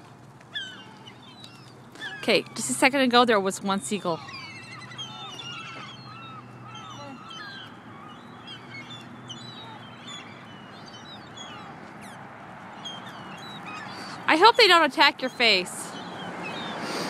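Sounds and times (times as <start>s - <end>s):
seagulls calling: 0.0s - 17.0s.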